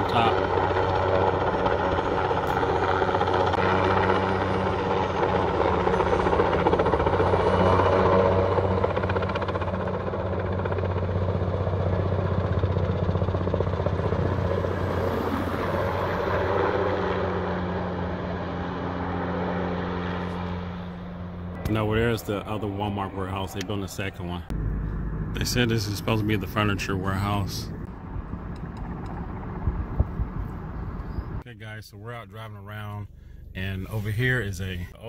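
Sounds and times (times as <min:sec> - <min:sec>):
helicopter rotor and engine: 0:00.0 - 0:31.5
low hum: 0:00.0 - 0:35.0.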